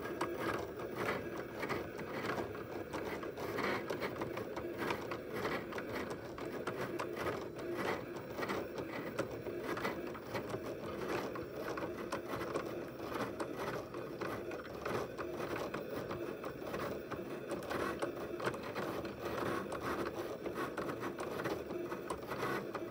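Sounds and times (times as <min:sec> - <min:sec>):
cutting machine motors whirring: 0:00.0 - 0:22.9.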